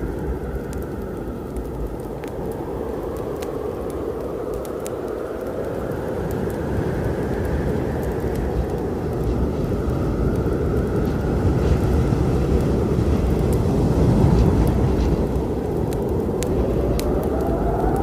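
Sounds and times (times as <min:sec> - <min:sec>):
faint wood fire crackles: 0:00.0 - 0:18.0
low storm rumble: 0:00.0 - 0:18.0.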